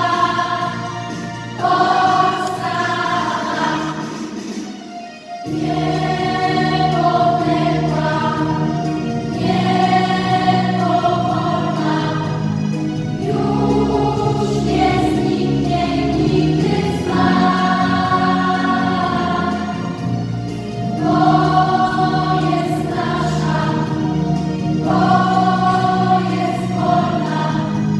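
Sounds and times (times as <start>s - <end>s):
children's choir singing: 0.0s - 4.8s, 5.4s - 27.9s.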